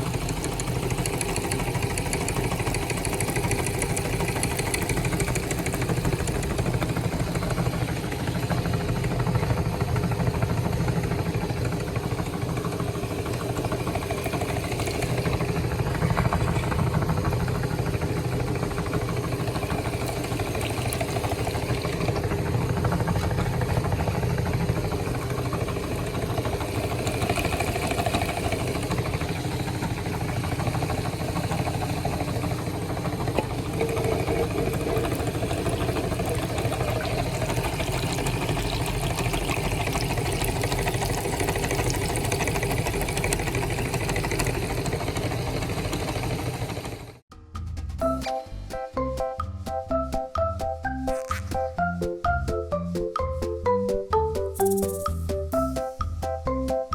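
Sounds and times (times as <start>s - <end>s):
meat grinder motor humming: 0.0s - 47.2s.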